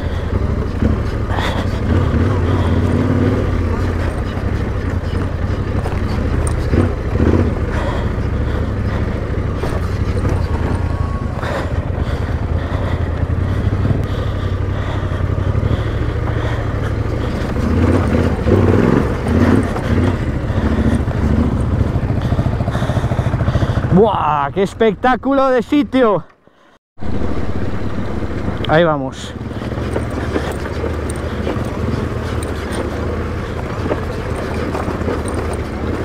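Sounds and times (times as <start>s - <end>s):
motorcycle engine revving: 0.0s - 25.0s, 27.0s - 36.0s.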